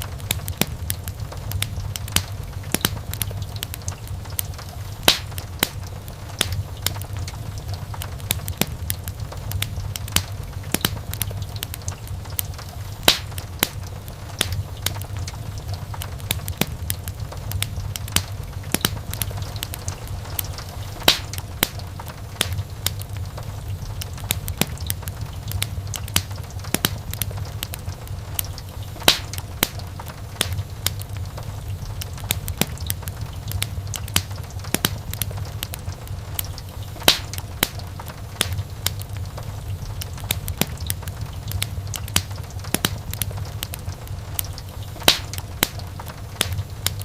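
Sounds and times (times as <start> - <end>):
fire crackling and popping: 0.0 - 47.0
fire flames rumbling: 0.0 - 47.0.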